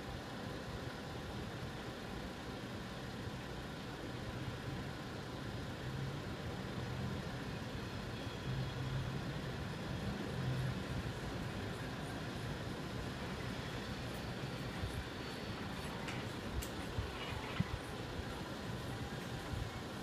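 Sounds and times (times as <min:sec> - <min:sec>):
diesel engines idling: 0:00.1 - 0:20.0.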